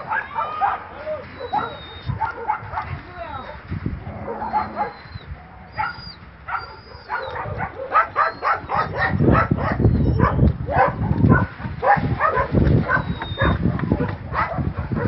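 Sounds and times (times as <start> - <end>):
many dogs barking: 0.0 - 15.0.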